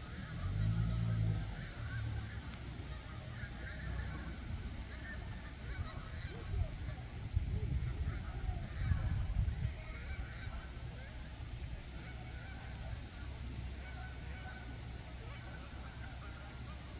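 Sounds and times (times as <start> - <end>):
geese honking: 0.0 - 16.9.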